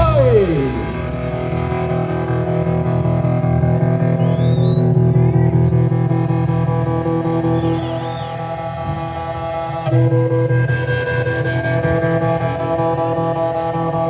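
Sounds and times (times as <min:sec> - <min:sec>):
electric guitar chord ringing: 0:00.0 - 0:14.0.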